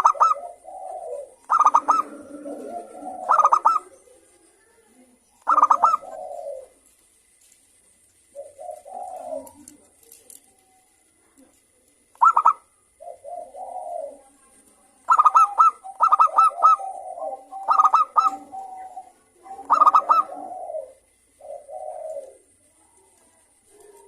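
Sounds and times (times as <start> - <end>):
doves calling: 0.0 - 24.0.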